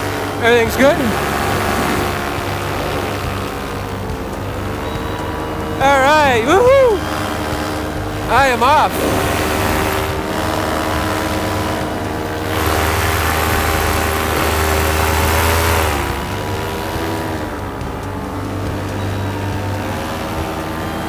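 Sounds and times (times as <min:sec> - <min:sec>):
paramotor engine and propeller: 0:00.0 - 0:21.0
wind noise on microphone: 0:00.0 - 0:21.0.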